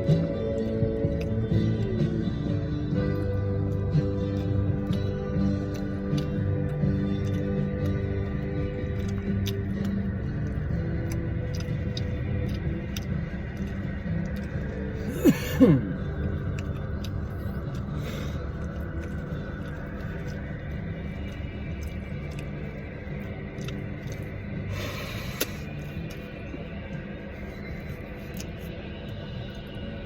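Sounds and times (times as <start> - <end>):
quiet radio music: 0.0 - 30.0.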